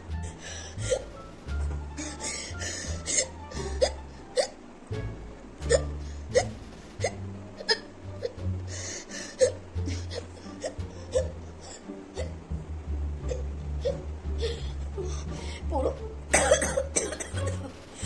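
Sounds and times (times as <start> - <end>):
background music with bass: 0.0 - 18.0.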